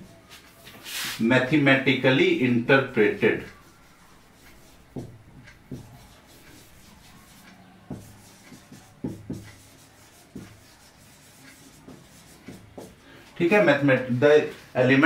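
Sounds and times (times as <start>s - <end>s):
marker pen on whiteboard: 0.0s - 15.0s.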